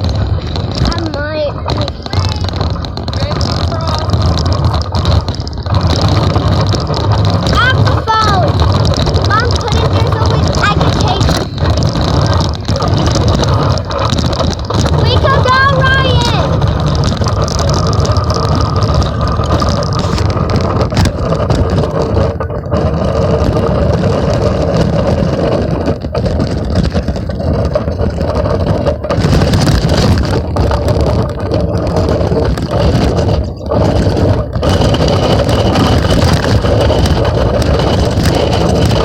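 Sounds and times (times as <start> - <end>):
bicycle riding rumble and rattle: 0.0 - 39.0.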